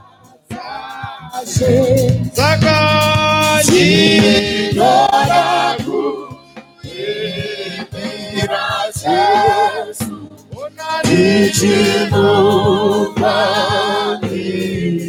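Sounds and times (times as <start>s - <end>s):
band accompaniment: 0.0s - 15.0s
gospel choir singing: 0.0s - 15.0s.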